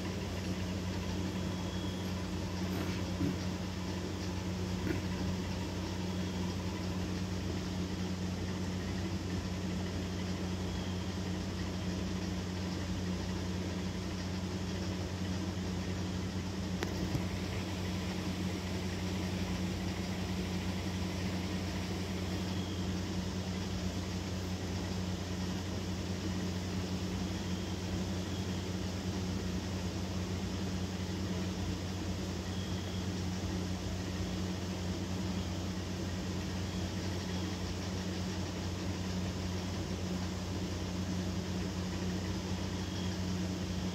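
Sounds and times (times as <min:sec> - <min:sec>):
low machine hum: 0:00.0 - 0:43.9.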